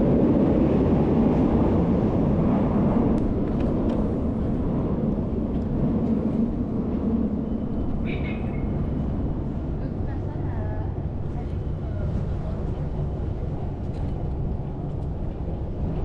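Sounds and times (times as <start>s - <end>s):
rail station rumble: 0.0s - 16.0s.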